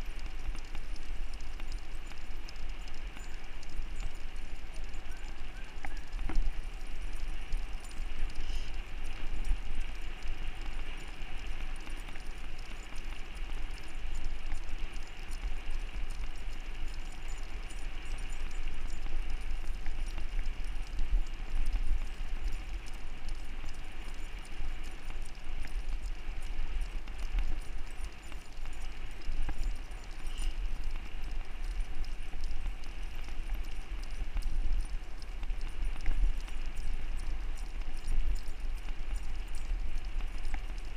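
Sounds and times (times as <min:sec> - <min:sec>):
dog paws on asphalt: 0:00.0 - 0:40.9.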